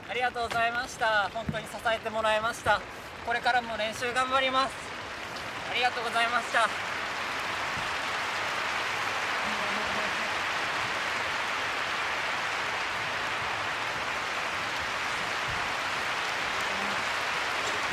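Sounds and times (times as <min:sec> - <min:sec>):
crowd applauding: 0:00.0 - 0:17.9.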